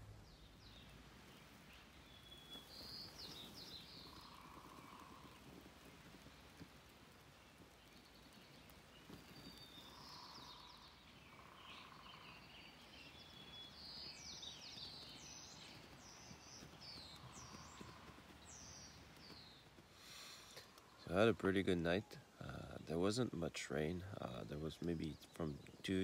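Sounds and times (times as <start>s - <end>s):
faint birdsong chirps and trills: 0.0s - 26.0s.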